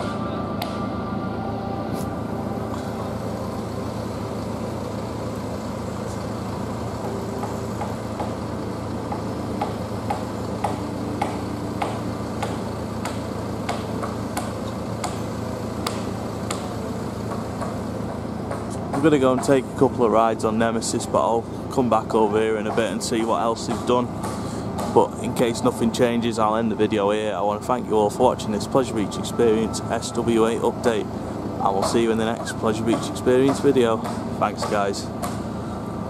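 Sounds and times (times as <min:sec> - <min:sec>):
machinery engine running: 0:00.0 - 0:36.0.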